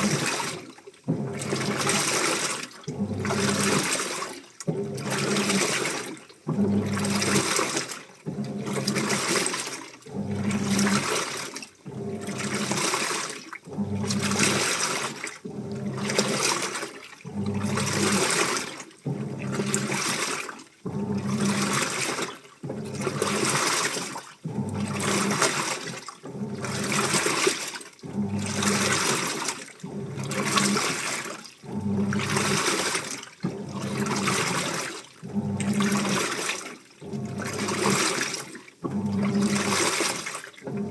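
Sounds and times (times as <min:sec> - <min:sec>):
water and laundry sloshing: 0:00.0 - 0:40.9.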